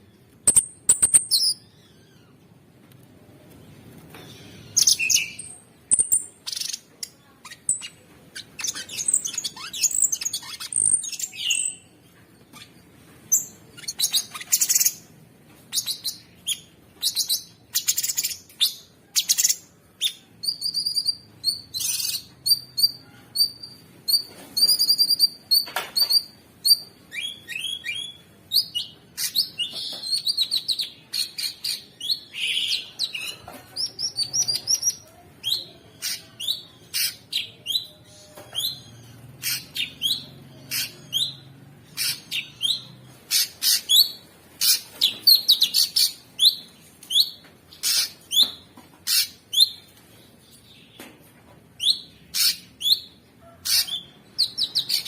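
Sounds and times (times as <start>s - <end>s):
songbird chirping and trilling: 3.9s - 55.0s.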